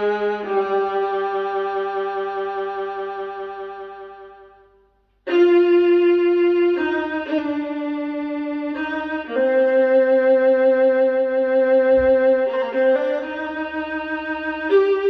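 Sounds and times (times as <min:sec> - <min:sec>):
slow solo violin: 0:00.0 - 0:04.4, 0:05.3 - 0:15.0.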